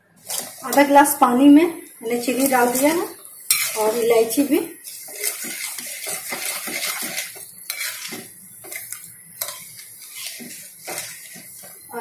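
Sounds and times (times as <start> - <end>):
metal spoon scraping a pan: 0.2 - 1.2, 2.1 - 12.0.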